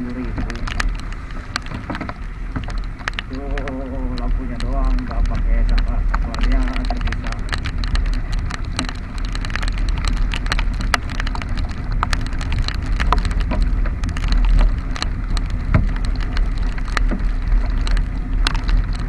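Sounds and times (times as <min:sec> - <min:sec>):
raindrops ticking on camera housing: 0:00.0 - 0:19.0
scooter engine riding: 0:00.0 - 0:19.0
wind rumble: 0:00.0 - 0:19.0.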